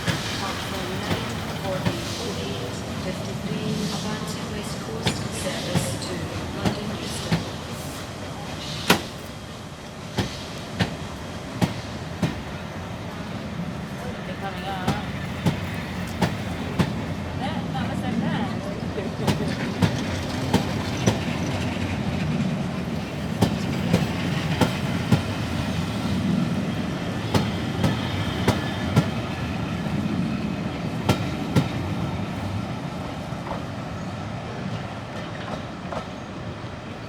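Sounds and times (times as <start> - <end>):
train wheels clicking over rail joints: 0.0 - 17.4, 19.2 - 37.0
railway coaches rumbling past: 0.0 - 37.0.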